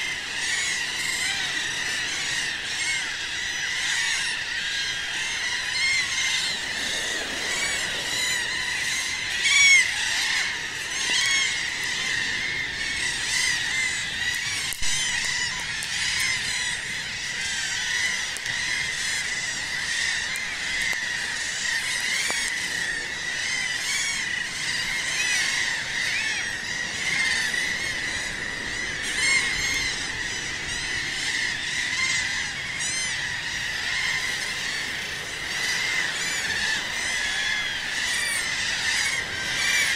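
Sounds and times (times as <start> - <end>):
seabirds calling: 0.0 - 39.9.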